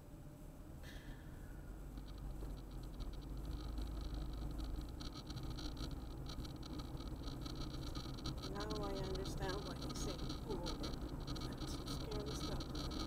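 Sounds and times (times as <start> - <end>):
road and engine rumble: 0.0 - 13.0
fast irregular ticking patter: 1.7 - 13.0.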